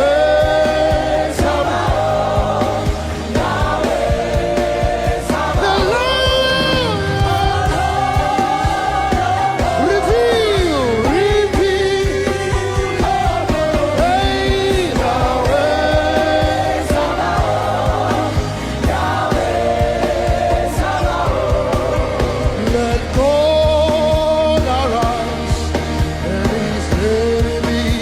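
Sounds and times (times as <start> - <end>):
band accompaniment with bass: 0.0 - 28.0
voices singing gospel: 0.0 - 28.0.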